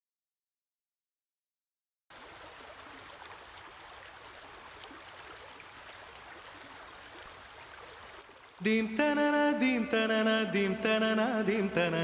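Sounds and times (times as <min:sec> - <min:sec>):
flowing water rushing: 0:02.1 - 0:12.0.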